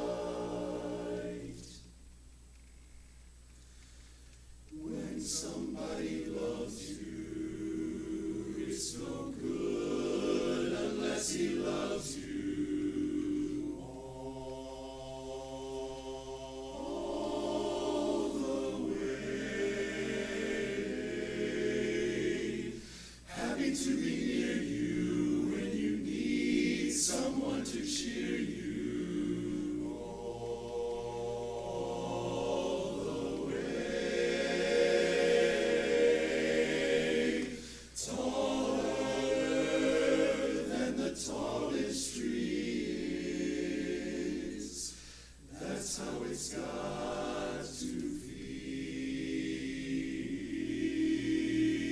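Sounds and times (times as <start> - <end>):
chorus singing a cappella: 0.0 - 1.9, 4.7 - 51.9.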